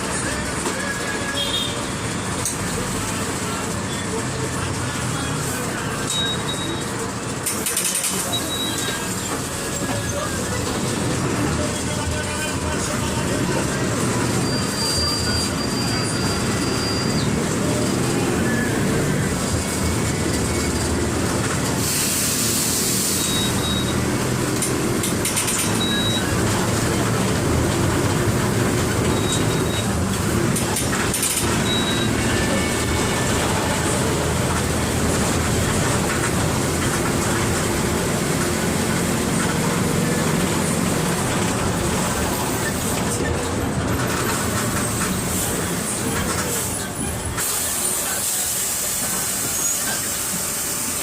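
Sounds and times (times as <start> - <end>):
bus diesel engine running: 0.0 - 51.0.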